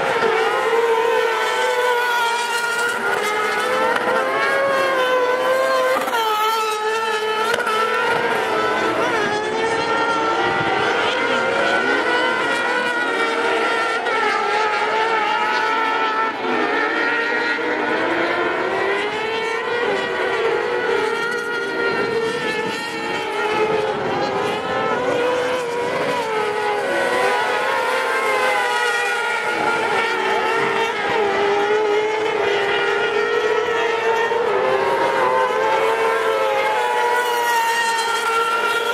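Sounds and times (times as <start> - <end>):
high-revving racing engines: 0.0 - 38.9.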